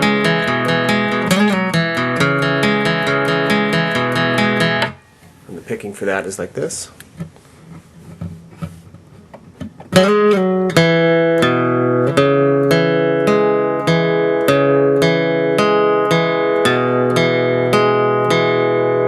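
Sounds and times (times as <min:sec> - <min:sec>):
fingerpicked acoustic guitar: 0:00.0 - 0:05.4, 0:07.1 - 0:19.0.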